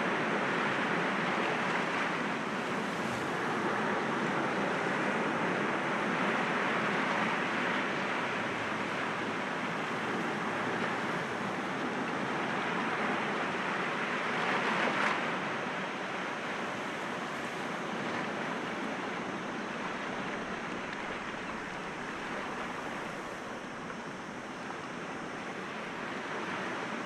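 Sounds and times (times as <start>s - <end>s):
waves breaking against rocks: 0.9s - 27.0s.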